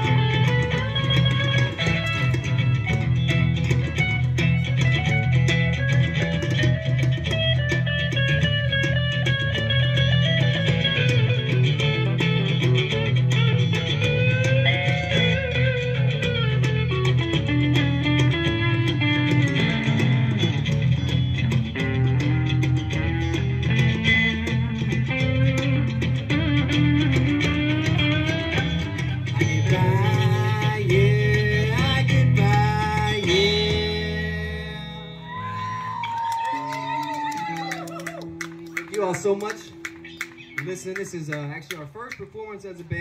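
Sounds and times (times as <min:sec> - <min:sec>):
bass guitar: 0:00.0 - 0:43.0
electric guitar lines: 0:00.0 - 0:43.0.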